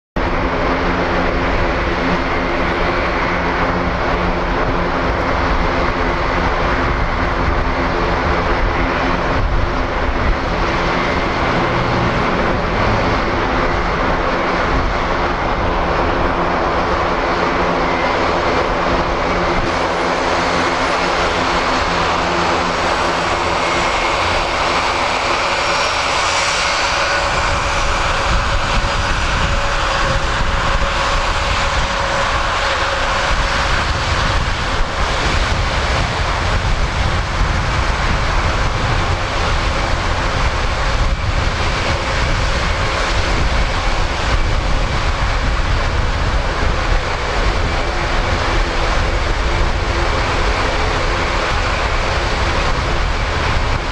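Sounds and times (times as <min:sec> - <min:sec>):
high engine whine: 0:00.2 - 0:53.9
turboprop engines droning: 0:00.2 - 0:53.9.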